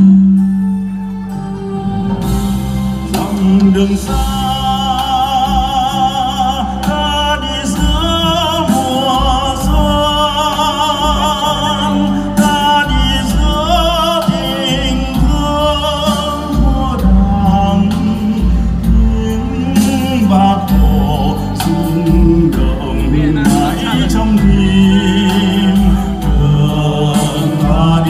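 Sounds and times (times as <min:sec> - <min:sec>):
instrumental backing: 0:00.0 - 0:28.0
person singing with vibrato: 0:00.0 - 0:28.0.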